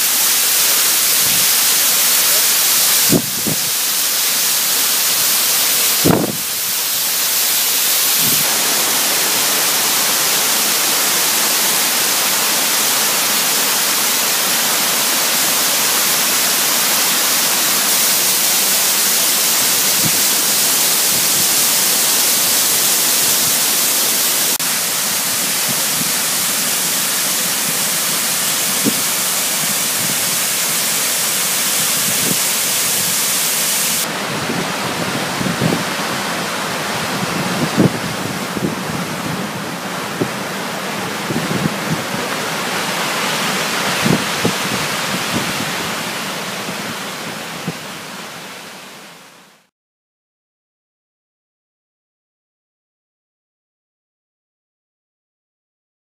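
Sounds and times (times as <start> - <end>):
waterfall rushing: 0.0 - 49.7.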